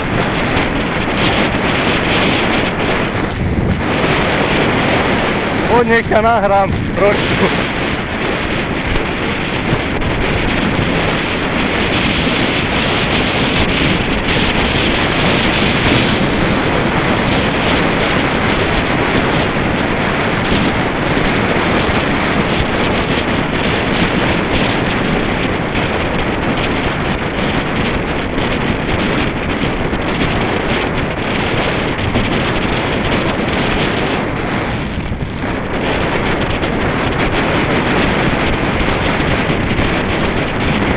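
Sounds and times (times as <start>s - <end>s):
wind noise on microphone: 0.0s - 40.9s.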